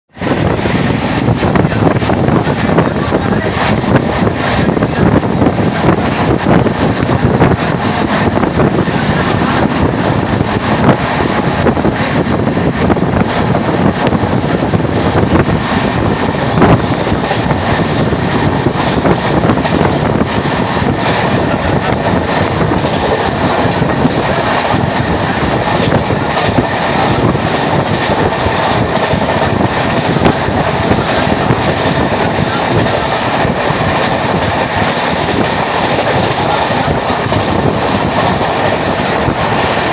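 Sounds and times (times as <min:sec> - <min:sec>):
train wheels rumbling on rails: 0:00.1 - 0:39.9.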